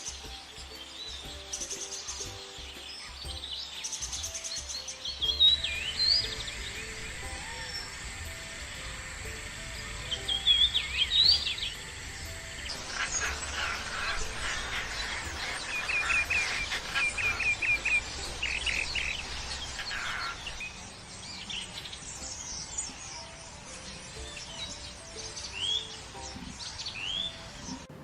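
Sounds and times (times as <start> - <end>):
wild birds calling and singing: 0.0 - 28.0.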